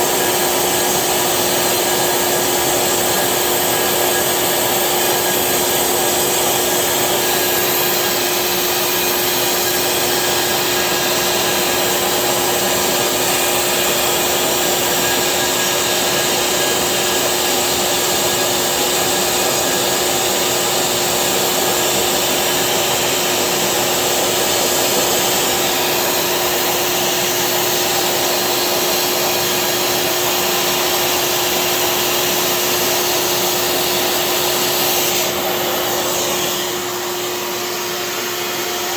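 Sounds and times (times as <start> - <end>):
cnc machine whining: 0.0 - 38.9.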